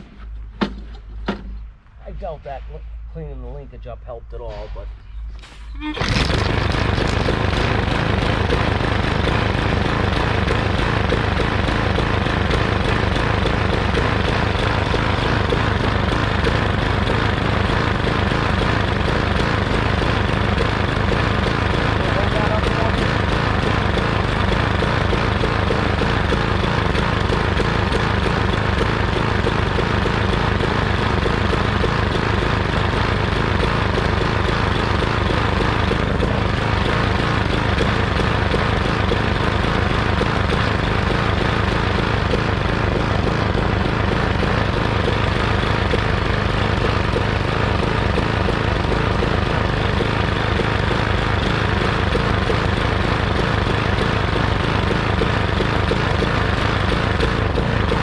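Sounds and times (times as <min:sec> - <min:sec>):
lawn mower engine running: 0:05.8 - 0:58.0.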